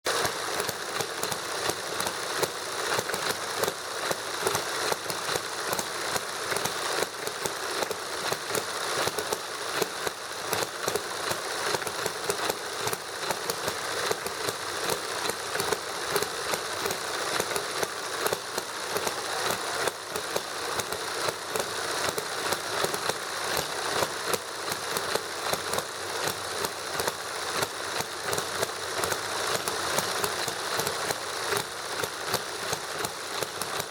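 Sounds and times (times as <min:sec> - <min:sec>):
toy gasoline engine clattering: 0:00.0 - 0:33.9.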